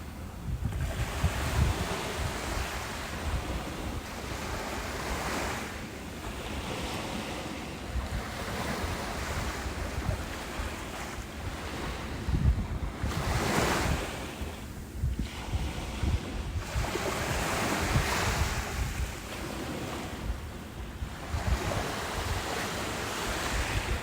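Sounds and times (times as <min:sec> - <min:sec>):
ocean surf on a beach: 0:00.0 - 0:24.0
wind buffeting microphone: 0:00.0 - 0:24.0.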